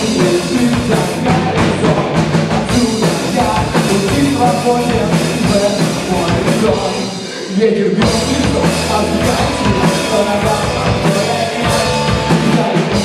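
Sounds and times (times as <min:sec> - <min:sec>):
drum kit beat: 0:00.0 - 0:13.0
rock band playing: 0:00.0 - 0:13.0.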